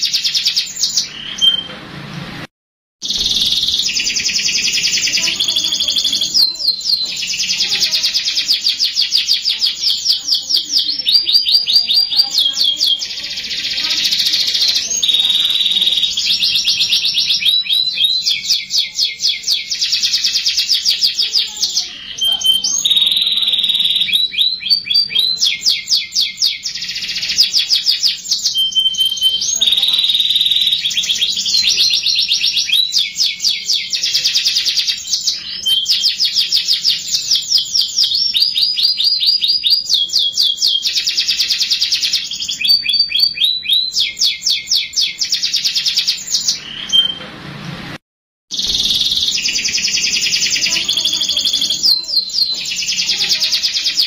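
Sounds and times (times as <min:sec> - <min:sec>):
canary singing trills: 0:00.0 - 0:01.8, 0:03.0 - 0:47.2, 0:48.5 - 0:54.0.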